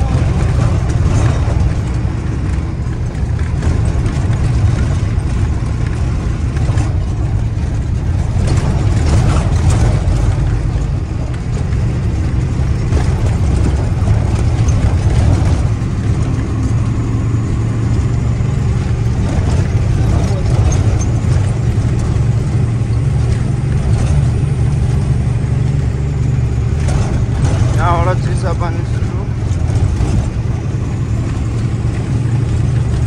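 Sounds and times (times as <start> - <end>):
truck diesel engine and road noise: 0.0 - 33.0.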